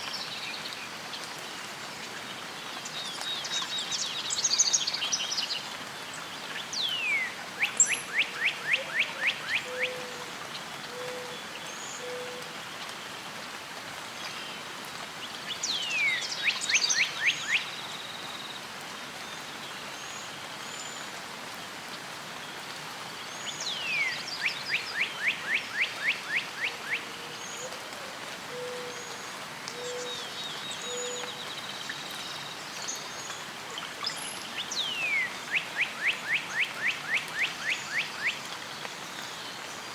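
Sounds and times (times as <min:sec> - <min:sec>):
songbird singing: 0:00.0 - 0:12.8, 0:15.2 - 0:18.6, 0:23.1 - 0:39.9.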